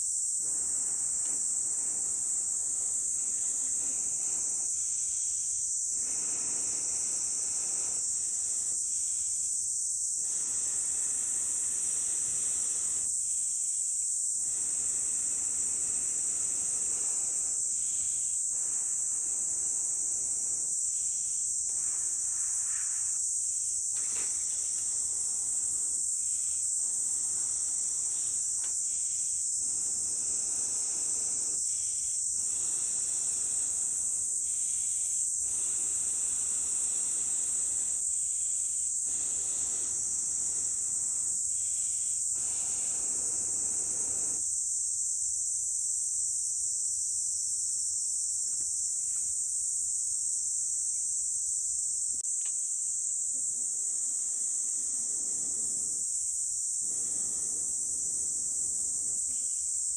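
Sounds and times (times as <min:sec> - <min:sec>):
insect chorus: 0:00.0 - 0:59.9
blowing air through a pipe: 0:00.4 - 0:09.5, 0:10.2 - 0:44.4, 0:53.4 - 0:59.8.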